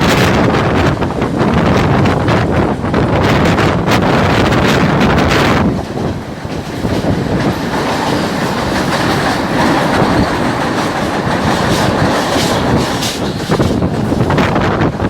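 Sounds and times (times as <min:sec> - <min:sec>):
train wheels clacking: 0:00.0 - 0:15.0
train wheels rumbling on rails: 0:00.0 - 0:15.0.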